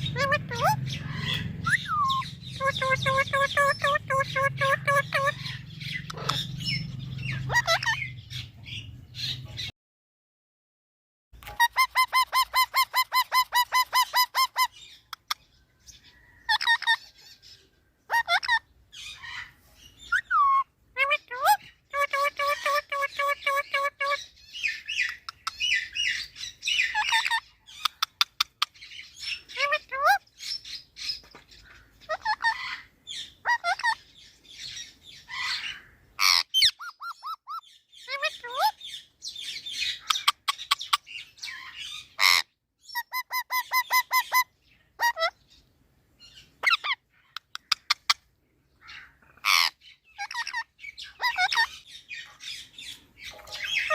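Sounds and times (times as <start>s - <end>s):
parrot calling: 0.0s - 9.4s, 11.4s - 15.5s, 16.1s - 17.5s, 18.1s - 45.6s, 46.2s - 53.9s.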